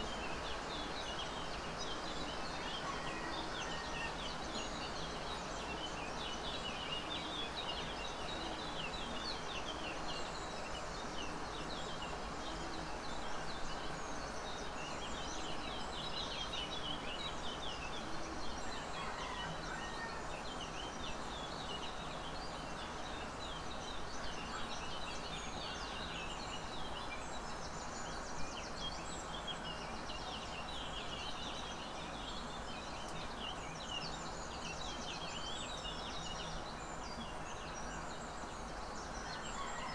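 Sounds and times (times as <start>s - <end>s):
background hiss: 0.0s - 39.9s
small birds chirping: 0.0s - 39.9s.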